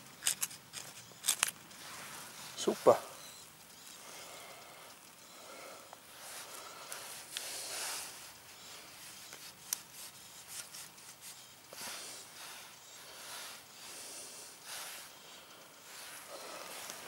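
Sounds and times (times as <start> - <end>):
fire starters burning with crackle: 0.0 - 17.0.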